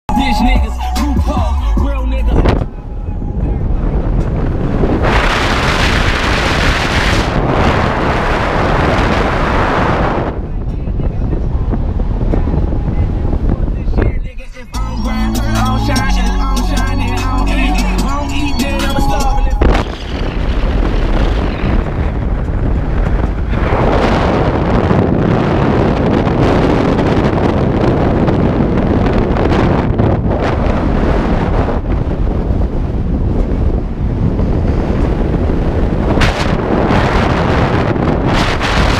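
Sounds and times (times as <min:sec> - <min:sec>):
road noise: 0:00.1 - 0:38.9
wind buffeting microphone: 0:00.4 - 0:16.0, 0:16.6 - 0:38.9.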